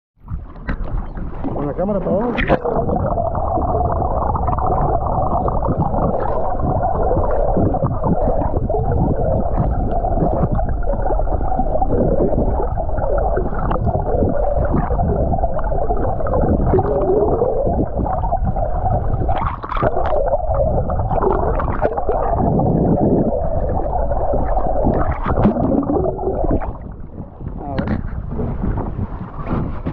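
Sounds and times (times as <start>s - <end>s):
muffled underwater rushing water: 0.2s - 29.9s.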